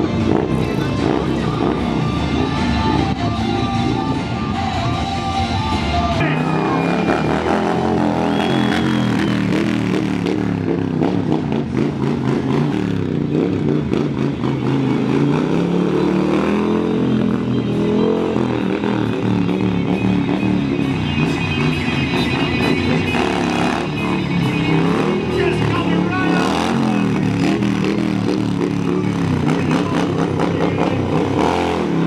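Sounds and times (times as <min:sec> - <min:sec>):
music playing: 0:00.0 - 0:11.8, 0:12.5 - 0:32.0
motorcycle engine revving: 0:00.0 - 0:32.0.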